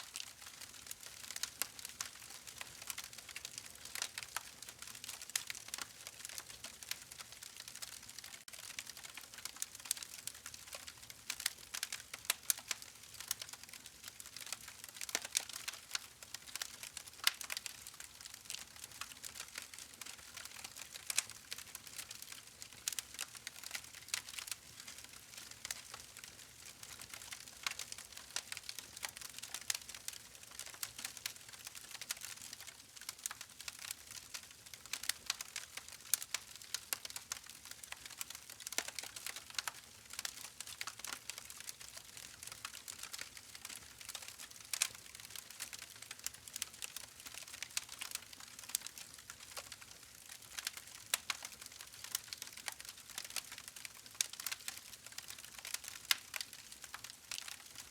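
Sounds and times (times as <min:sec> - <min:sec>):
campfire crackling and hissing: 0:00.0 - 0:57.9.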